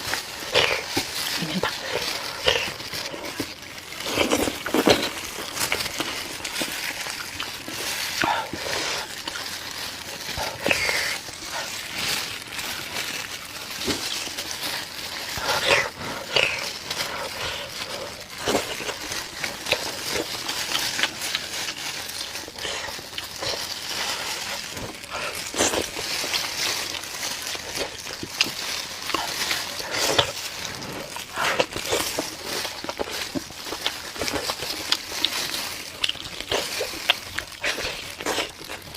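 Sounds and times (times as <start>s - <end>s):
slurping: 0.0s - 38.9s
wet chewing and smacking: 0.0s - 38.9s.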